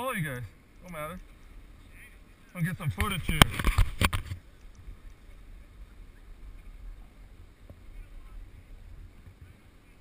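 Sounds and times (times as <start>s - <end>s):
wind buffeting microphone: 0.9s - 10.0s.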